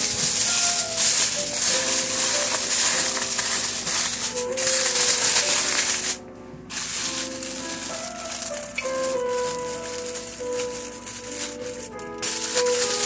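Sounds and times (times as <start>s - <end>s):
aluminium foil crinkling: 0.0s - 13.0s
background music: 0.0s - 13.0s.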